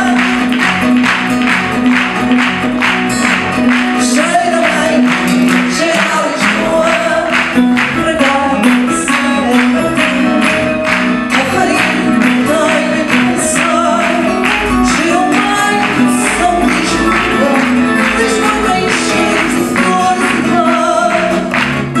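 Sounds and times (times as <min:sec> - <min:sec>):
woman singing: 0:00.0 - 0:00.6, 0:04.0 - 0:21.7
plucked guitar strings: 0:00.0 - 0:22.0.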